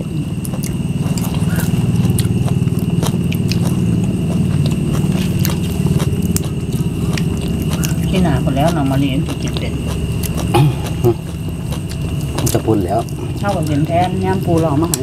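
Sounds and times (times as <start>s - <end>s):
people chewing: 0.0s - 15.0s
pulsing low drone: 0.0s - 15.0s.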